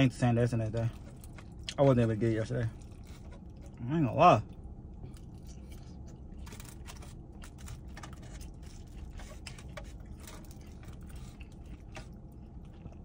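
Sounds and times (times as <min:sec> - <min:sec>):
low steady hum: 0:00.0 - 0:13.0
person chewing crunchy food: 0:00.8 - 0:02.0, 0:02.6 - 0:03.8, 0:04.4 - 0:13.0.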